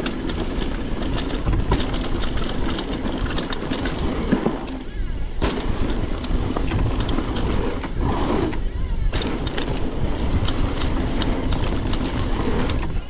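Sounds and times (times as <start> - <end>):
bike clicks and rattles: 0.0 - 13.0.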